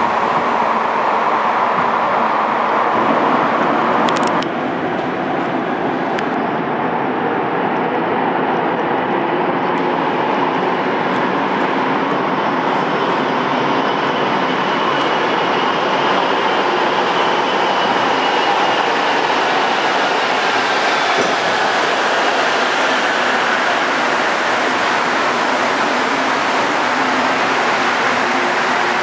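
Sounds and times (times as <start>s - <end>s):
subway train rushing rumble: 0.0s - 29.0s.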